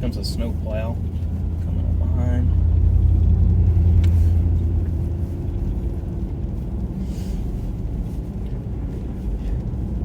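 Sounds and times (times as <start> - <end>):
car driving on snowy road: 0.0 - 10.0.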